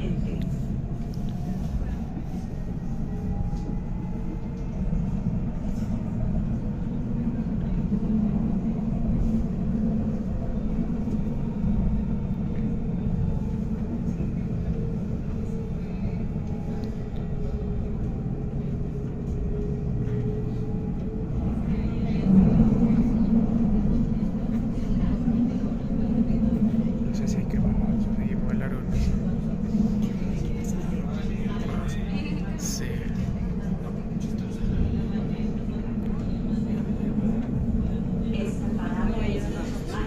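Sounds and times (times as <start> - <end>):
tram rumbling along track: 0.0 - 40.0.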